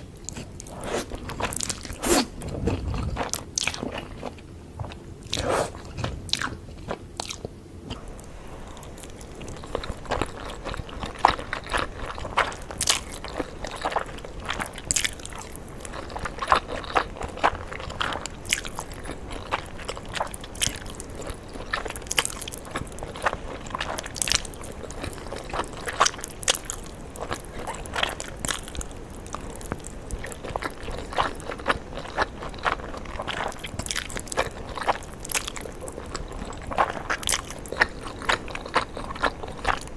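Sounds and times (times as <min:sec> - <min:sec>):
chewing with wet mouth smacks: 0:00.0 - 0:39.9.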